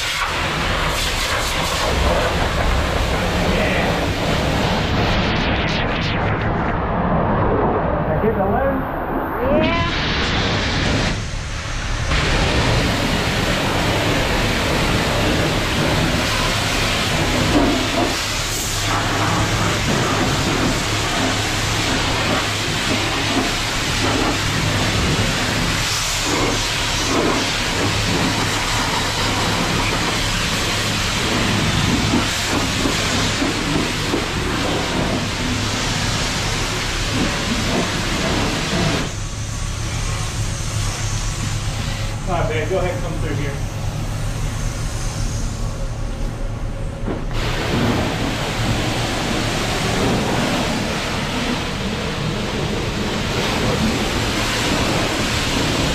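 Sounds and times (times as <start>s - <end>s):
pressure washer spraying water: 0.0s - 5.5s, 9.6s - 46.2s, 47.2s - 55.9s
low hum: 0.4s - 55.9s.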